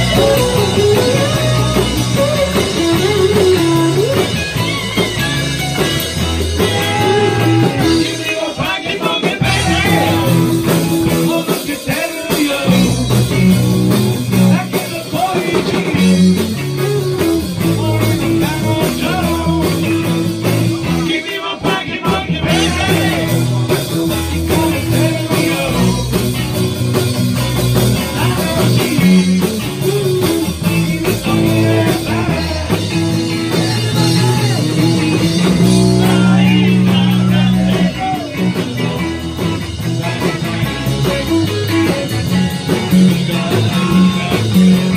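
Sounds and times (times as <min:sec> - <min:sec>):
man singing: 0:00.0 - 0:04.0, 0:06.6 - 0:13.4, 0:14.3 - 0:16.6, 0:17.2 - 0:26.6, 0:27.8 - 0:44.9
bass guitar: 0:00.0 - 0:44.9
drums: 0:00.0 - 0:44.9
electric guitars: 0:00.0 - 0:44.9.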